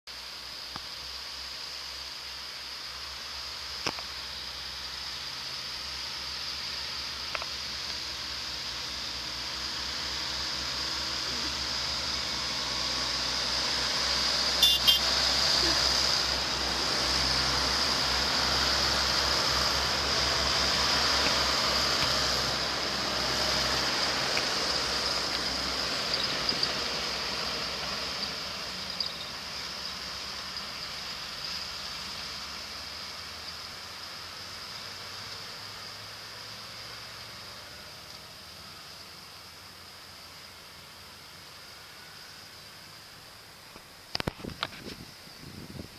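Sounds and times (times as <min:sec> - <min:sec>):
tractors driving past: 0:01.2 - 0:44.8.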